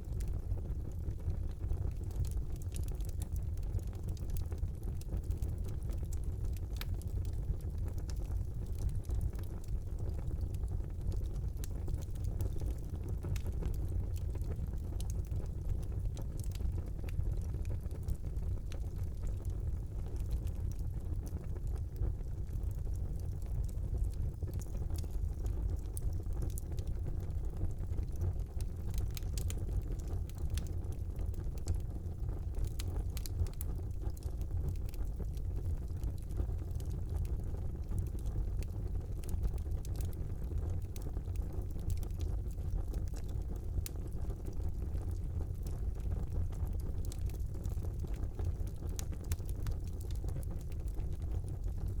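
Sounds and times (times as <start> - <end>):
burning logs crackling and popping: 0.0 - 52.0
fire flames rumbling: 0.0 - 52.0.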